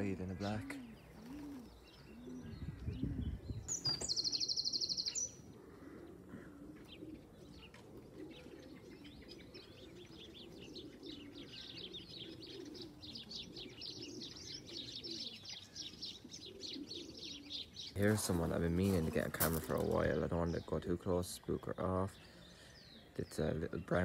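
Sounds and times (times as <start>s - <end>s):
pigeons cooing: 0.0s - 24.0s
small birds chirping: 0.0s - 24.0s.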